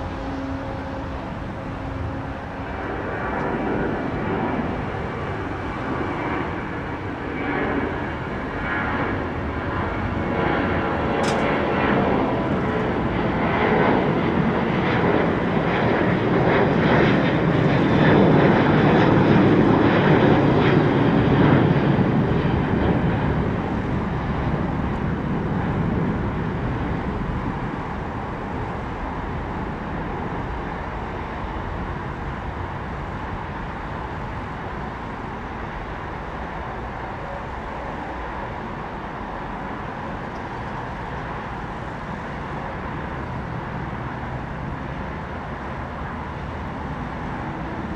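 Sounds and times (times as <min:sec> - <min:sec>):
jet airliner taking off: 0:00.0 - 0:47.9.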